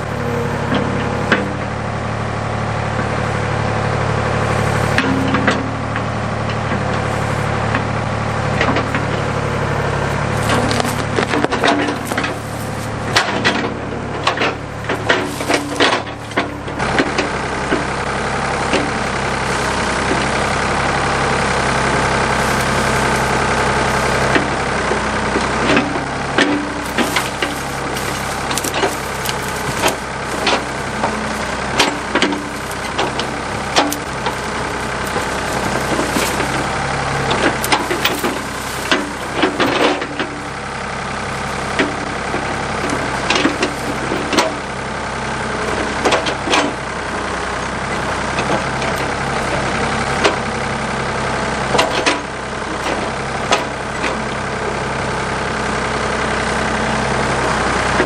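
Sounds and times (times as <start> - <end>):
backhoe engine running: 0.0 - 58.0
digging knocks and clanks: 0.2 - 1.8, 4.5 - 54.8.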